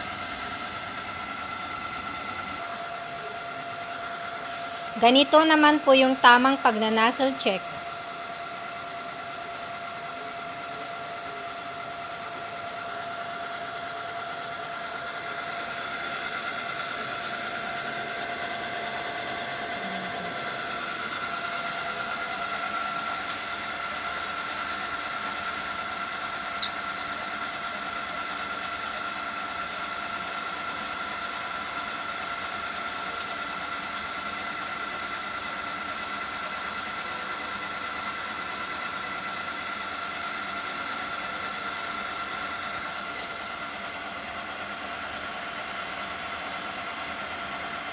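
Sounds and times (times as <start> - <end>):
printer humming and whirring: 0.0 - 47.9.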